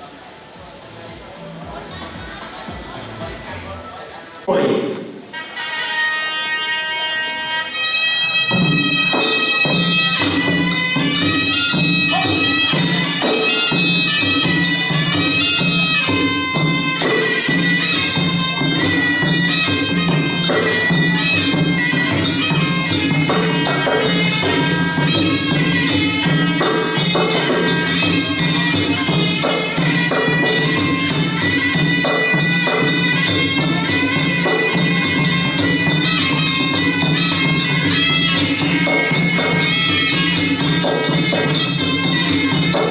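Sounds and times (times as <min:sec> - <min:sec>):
drums: 0:00.0 - 0:42.9
reedy wind melody: 0:00.0 - 0:42.9
small hand cymbals: 0:05.3 - 0:42.9.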